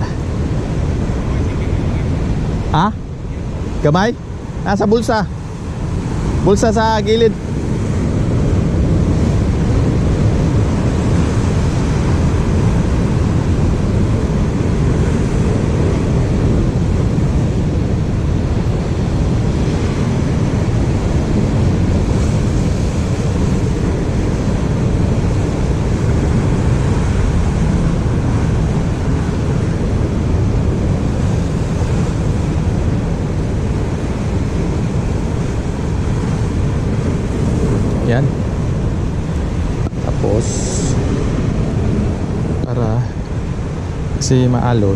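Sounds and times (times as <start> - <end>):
surf rushing: 0.0 - 44.9
wind buffeting microphone: 0.0 - 44.9.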